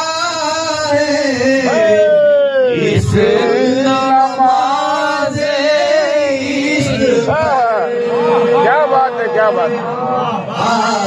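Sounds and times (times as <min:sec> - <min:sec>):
man singing melismatic devotional song: 0:00.0 - 0:11.0.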